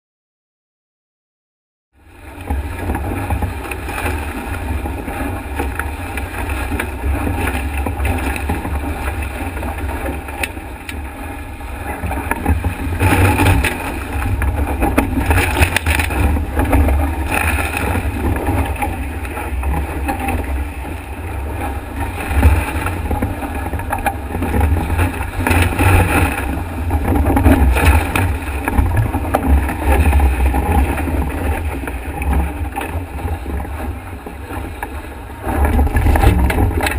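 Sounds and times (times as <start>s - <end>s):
water rushing and spraying: 2.1s - 36.9s
wind buffeting microphone: 2.2s - 36.9s.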